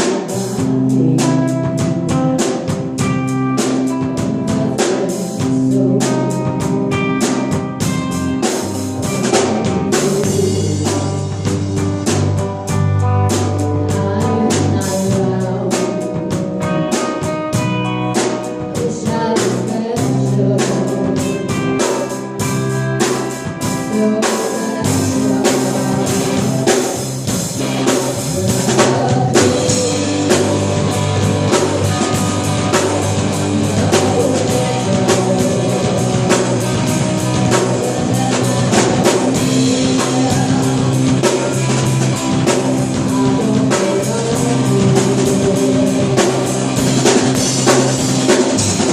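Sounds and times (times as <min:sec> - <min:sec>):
drum kit beat: 0:00.0 - 0:48.9
electric guitar: 0:00.0 - 0:48.9
rock band playing live: 0:00.0 - 0:48.9.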